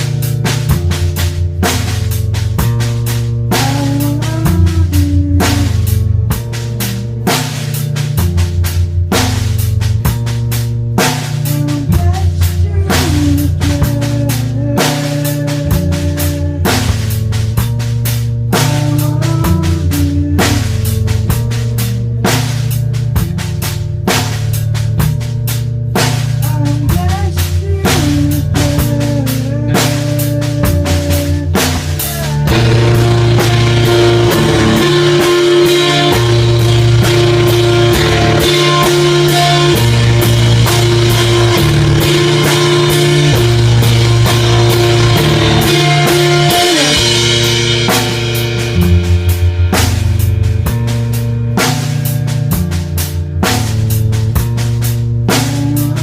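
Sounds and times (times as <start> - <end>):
rock music: 0.0 - 56.0.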